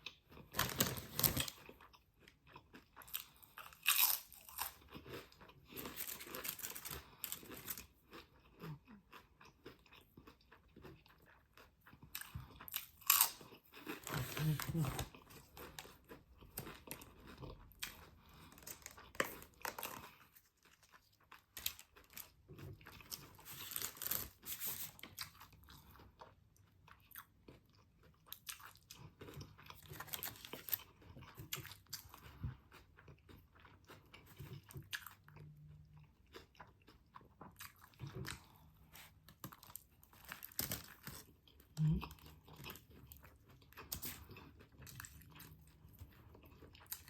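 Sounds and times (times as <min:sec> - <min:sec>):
person chewing and crunching food: 0:00.0 - 0:47.0.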